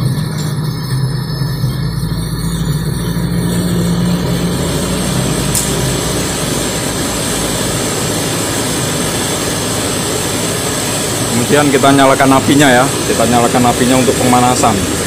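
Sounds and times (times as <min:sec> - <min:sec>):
cotton candy machine humming: 0:00.0 - 0:15.0.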